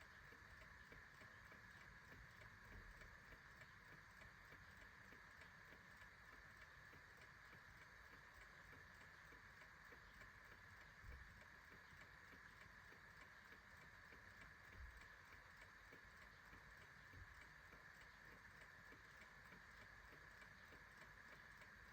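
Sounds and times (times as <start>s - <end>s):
clock ticking: 0.0s - 21.9s.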